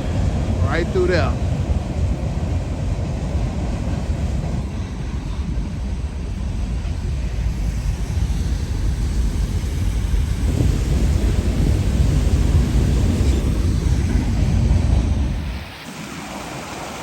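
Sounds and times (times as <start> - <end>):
traffic rumble on bridge overhead: 0.0 - 15.7.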